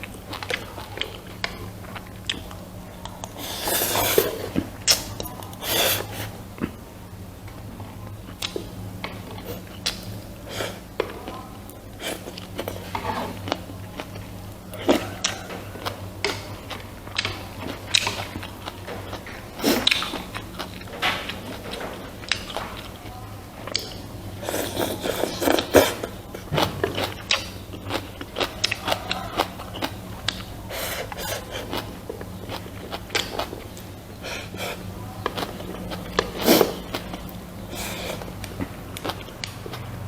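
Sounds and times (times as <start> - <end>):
chewing and mouth smacks: 0.0 - 3.4, 8.3 - 39.9.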